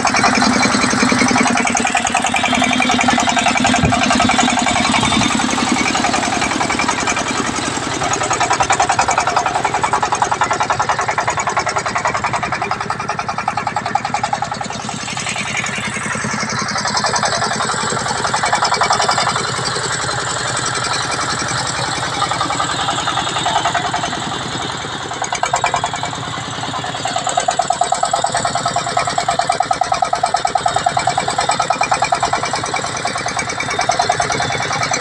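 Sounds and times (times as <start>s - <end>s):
diesel engine chugging: 0.0s - 35.0s.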